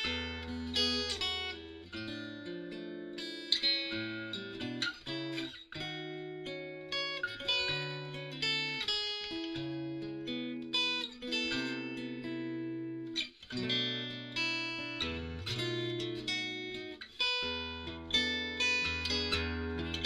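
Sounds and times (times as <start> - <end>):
fingerstyle acoustic guitar: 0.0 - 20.0.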